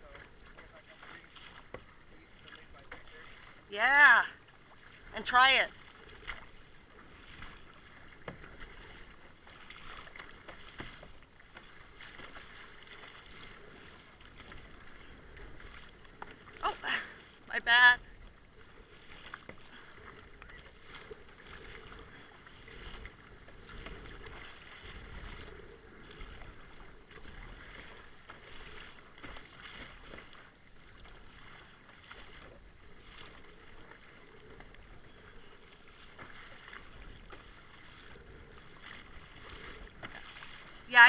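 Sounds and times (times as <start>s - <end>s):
paddle splashing in water: 0.0s - 41.0s
water slapping plastic hull: 0.0s - 41.0s.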